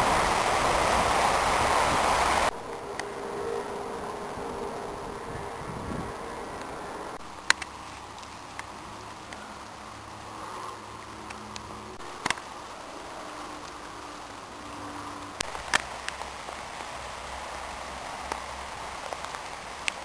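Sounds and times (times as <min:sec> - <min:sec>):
steady rain: 0:00.0 - 0:20.0
heavy raindrops ticking: 0:02.4 - 0:20.0.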